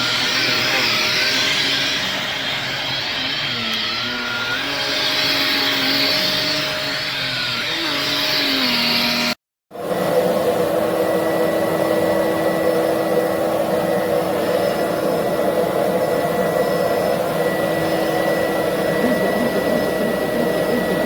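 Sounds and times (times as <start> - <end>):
handheld vacuum running: 0.0 - 21.0.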